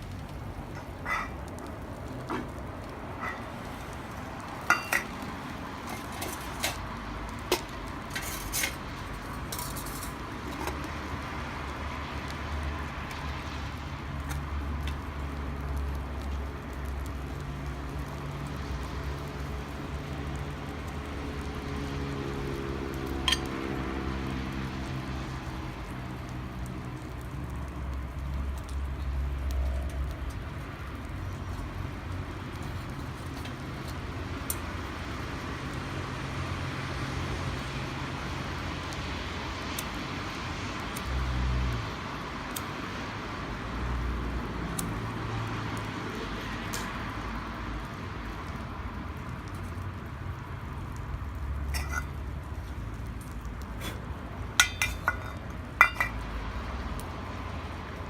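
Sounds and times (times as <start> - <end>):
campfire crackling and popping: 0.0 - 58.0
road traffic rumble: 0.0 - 58.0
vehicles passing: 0.0 - 58.0.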